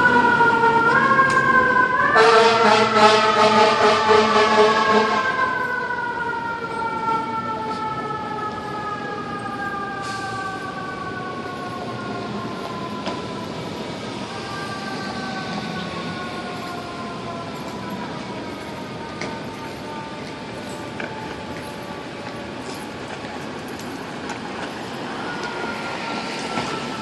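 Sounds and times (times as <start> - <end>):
fire engine siren: 0.0 - 27.0.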